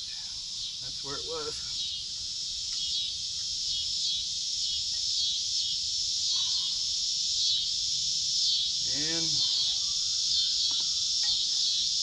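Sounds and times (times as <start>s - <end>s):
insects chirring chorus: 0.0s - 12.0s.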